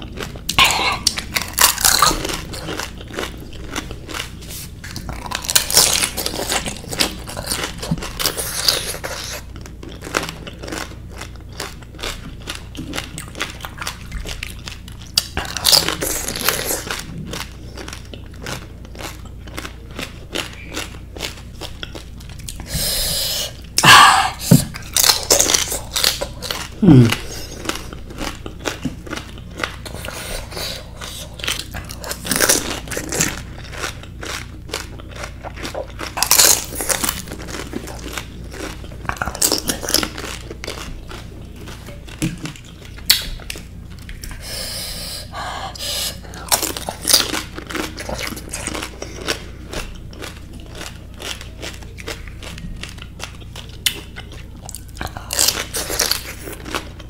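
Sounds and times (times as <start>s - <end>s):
crunching and chewing food: 0.0s - 57.0s.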